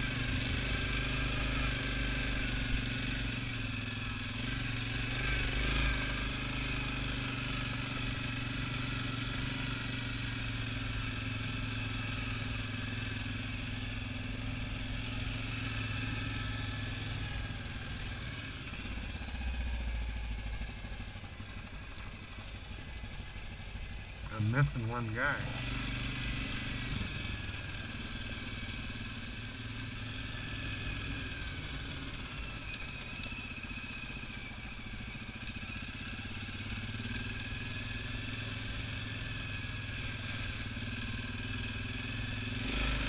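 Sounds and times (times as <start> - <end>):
quad engine running: 0.0 - 43.0.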